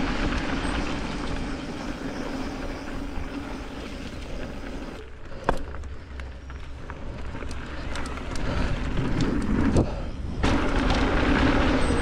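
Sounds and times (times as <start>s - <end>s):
bike tyre noise: 0.0s - 12.0s.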